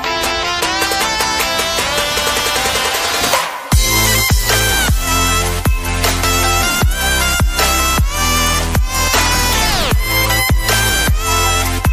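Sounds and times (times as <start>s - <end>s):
electronic dance music: 0.0s - 11.9s.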